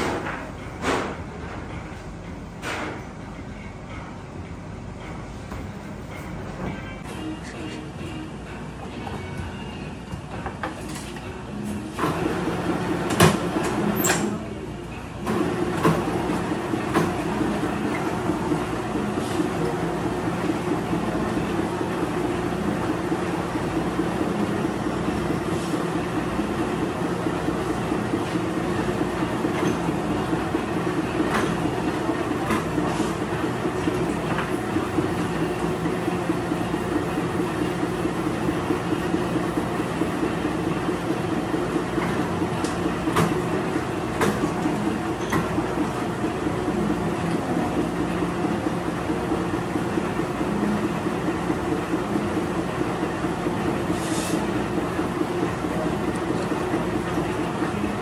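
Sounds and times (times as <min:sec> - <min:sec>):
bread moulder mechanical hum: 0:00.0 - 0:58.0.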